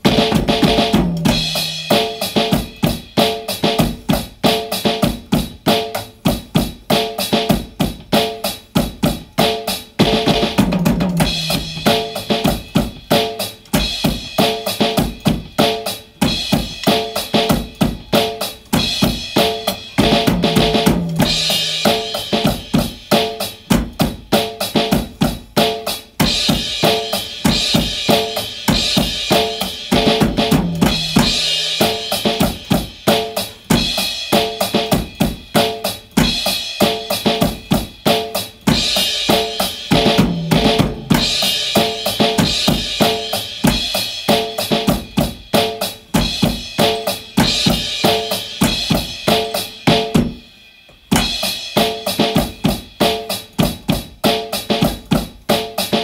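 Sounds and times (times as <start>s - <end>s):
drum kit rock beat: 0.0s - 56.0s.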